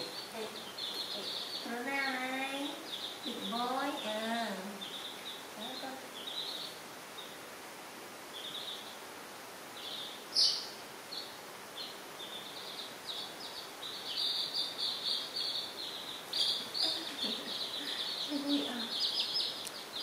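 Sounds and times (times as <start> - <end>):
baby chicks peeping: 0.0 - 7.6, 8.2 - 20.0.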